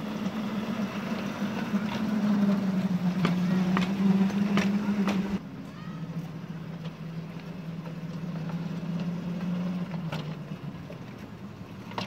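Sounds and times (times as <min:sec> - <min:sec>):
miniature locomotive humming: 0:00.0 - 0:12.0.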